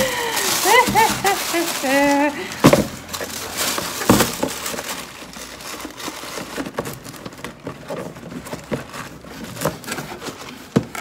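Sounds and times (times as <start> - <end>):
tissue paper rustling: 0.0 - 11.0.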